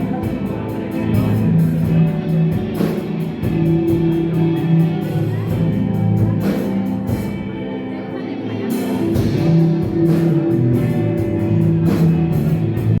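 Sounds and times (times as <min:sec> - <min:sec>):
drums: 0:00.0 - 0:13.0
sustained guitar notes: 0:00.0 - 0:13.0.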